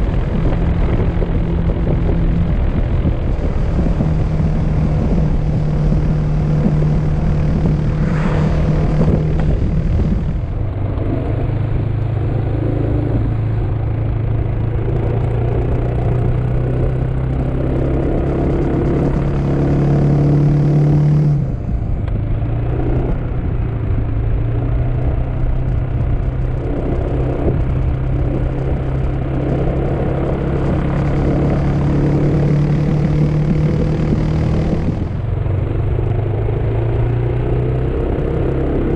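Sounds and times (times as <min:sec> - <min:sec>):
scooter engine running: 0:00.0 - 0:38.9
wind on microphone: 0:00.0 - 0:38.9.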